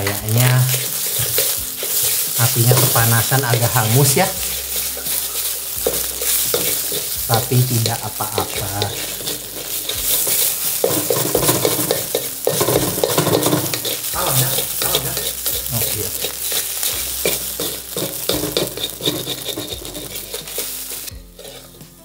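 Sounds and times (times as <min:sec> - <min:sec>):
eggs sizzling in oil: 0:00.0 - 0:22.0
wooden spatula scraping a wok: 0:00.0 - 0:22.0.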